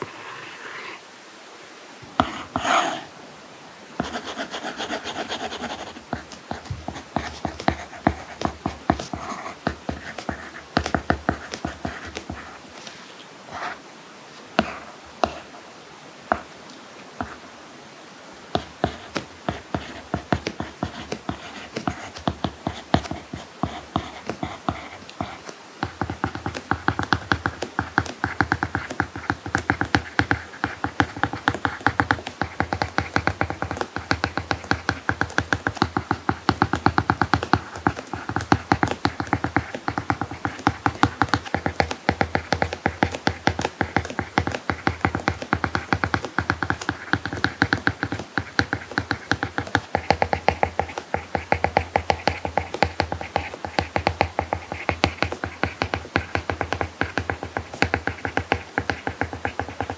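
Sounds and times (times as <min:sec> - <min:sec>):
stylus tapping on screen: 0:02.2 - 0:03.0, 0:04.0 - 0:12.9, 0:14.6 - 0:15.4, 0:18.5 - 0:59.9
stylus writing strokes: 0:02.2 - 0:03.1, 0:04.0 - 0:13.8, 0:14.6 - 0:15.6, 0:17.2 - 0:17.4, 0:18.5 - 0:59.9.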